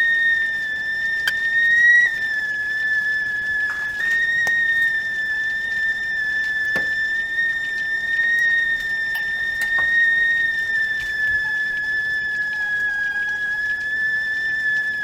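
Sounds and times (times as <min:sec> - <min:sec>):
teapot whistling: 0:00.0 - 0:15.0.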